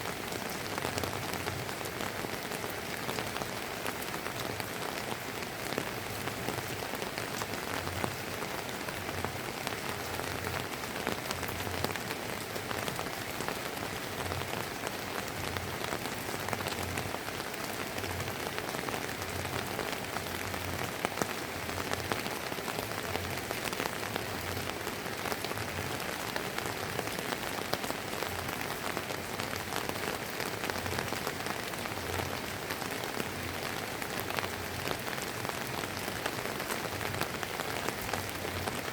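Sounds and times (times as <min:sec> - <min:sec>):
drizzling rain pattering: 0:00.0 - 0:38.9.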